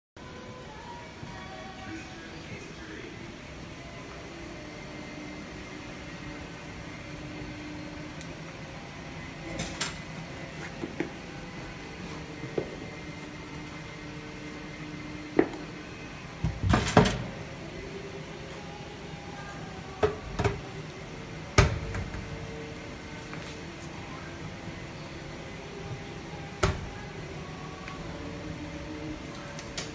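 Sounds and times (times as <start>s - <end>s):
steady hum: 0.2s - 29.9s.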